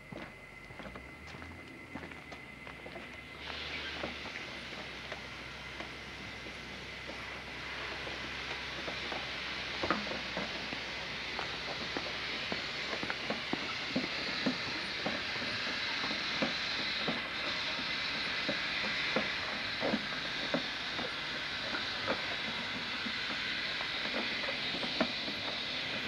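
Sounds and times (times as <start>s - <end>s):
sprayer hissing: 3.2s - 26.0s.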